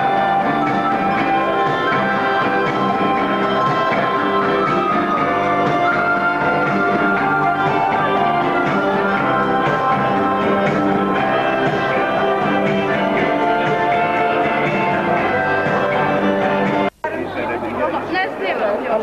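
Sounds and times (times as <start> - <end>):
electronic keyboard: 0.0 - 17.8.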